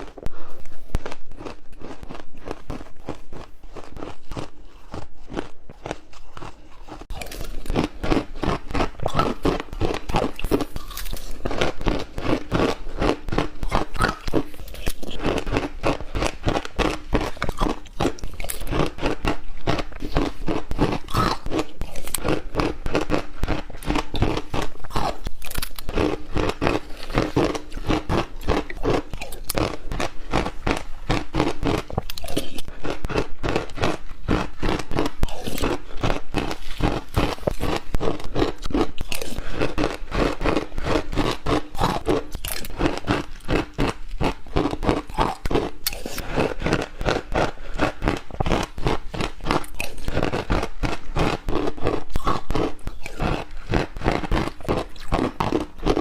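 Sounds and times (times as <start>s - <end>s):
ice cubes crunching: 0.0s - 56.0s.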